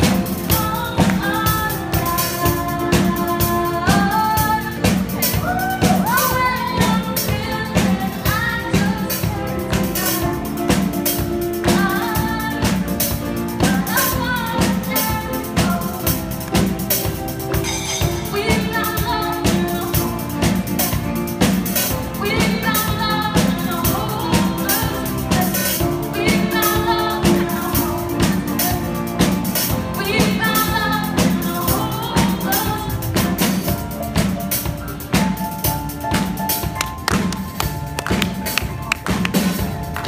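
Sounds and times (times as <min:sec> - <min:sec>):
drum kit with cymbals: 0:00.0 - 0:40.0
rock band playing: 0:00.0 - 0:40.0.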